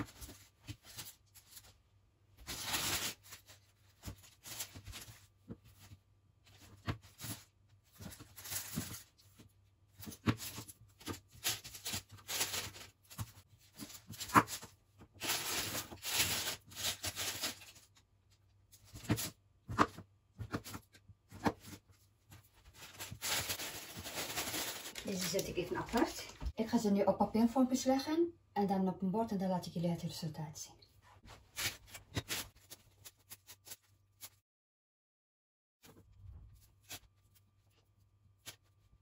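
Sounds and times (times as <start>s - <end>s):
baking paper crinkling: 0.0s - 26.5s, 31.2s - 34.4s, 35.8s - 39.0s.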